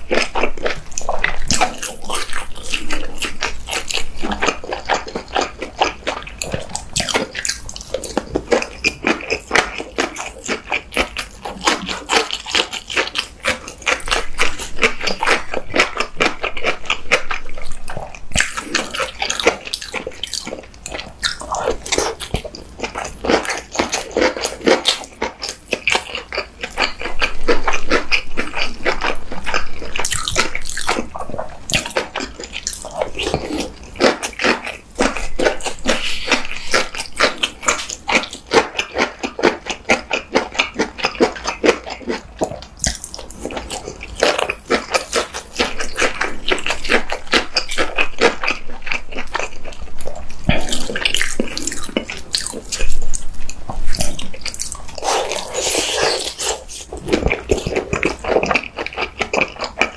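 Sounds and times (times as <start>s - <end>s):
chewing and smacking: 0.0s - 59.9s
crunching fried food: 0.0s - 59.9s.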